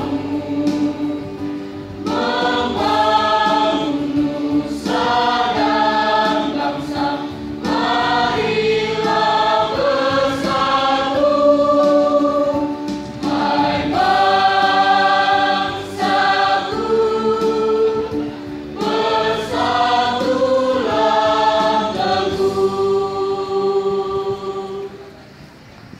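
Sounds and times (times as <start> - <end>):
children's choir singing: 0.0 - 25.1.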